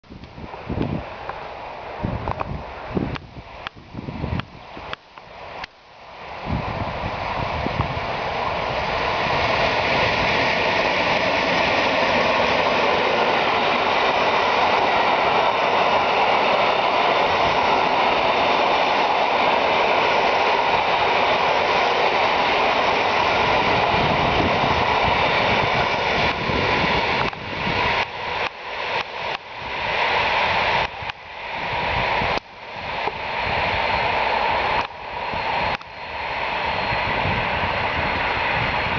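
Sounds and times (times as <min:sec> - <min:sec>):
train passing on rails: 0:00.1 - 0:38.9.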